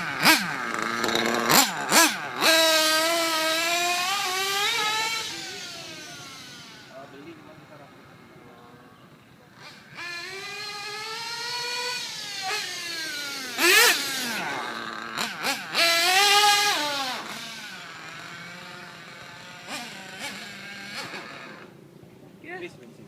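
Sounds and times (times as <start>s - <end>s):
rc race engine revving: 0.0s - 21.8s.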